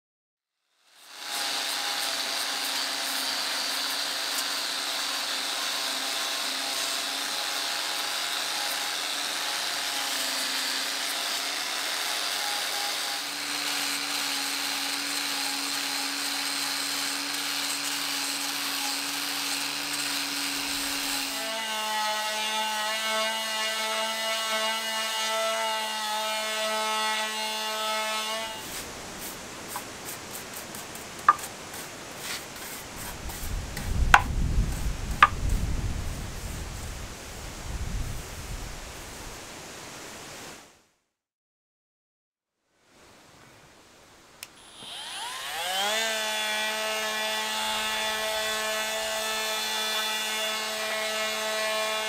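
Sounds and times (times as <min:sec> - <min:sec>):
angle grinder sanding wood: 0:00.9 - 0:37.0, 0:44.6 - 0:52.0.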